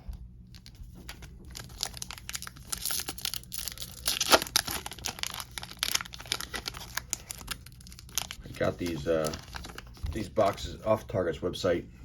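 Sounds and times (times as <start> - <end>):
foil wrapper tearing and crinkling: 0.6 - 10.6.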